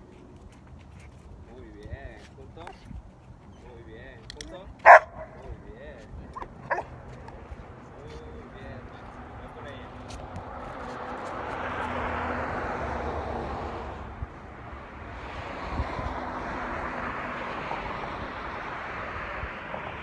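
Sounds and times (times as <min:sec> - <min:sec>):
cars passing on road: 0:00.0 - 0:20.0.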